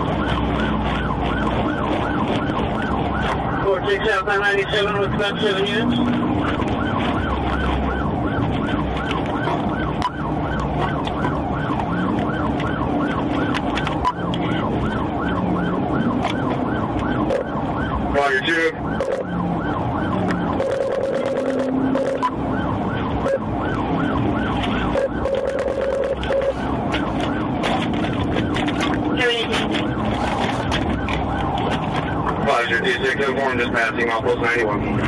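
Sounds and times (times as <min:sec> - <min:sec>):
car engine and road hum: 0:00.0 - 0:35.0
police siren yelping: 0:00.0 - 0:35.0.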